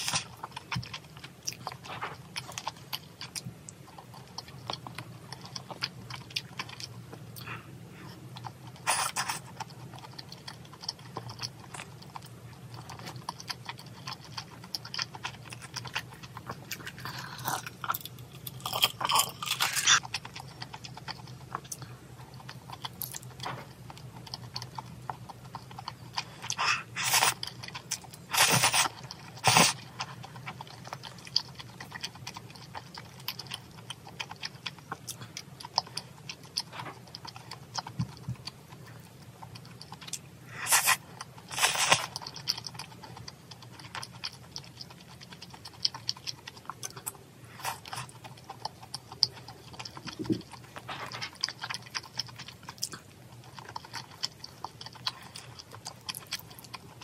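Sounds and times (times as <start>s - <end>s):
faint low hum: 0.0s - 57.0s
person chewing food: 0.0s - 57.0s.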